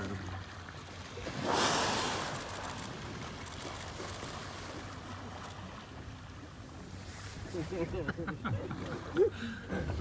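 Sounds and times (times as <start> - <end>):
boat engine hum: 0.0 - 10.0
water wash: 0.0 - 10.0.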